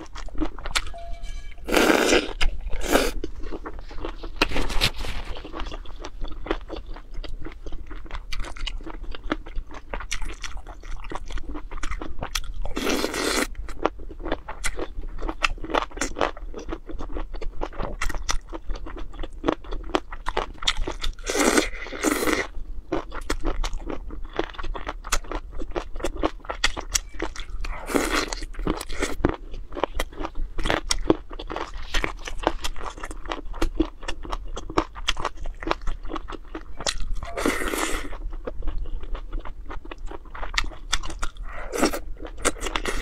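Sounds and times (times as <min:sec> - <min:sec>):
chewing crunchy food: 0:00.0 - 0:01.0, 0:02.0 - 0:43.0.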